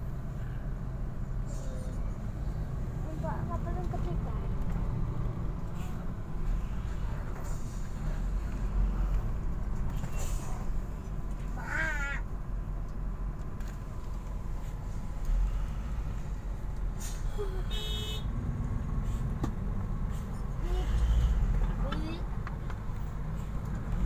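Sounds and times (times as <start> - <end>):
heavy vehicle engines idling: 0.0 - 24.0.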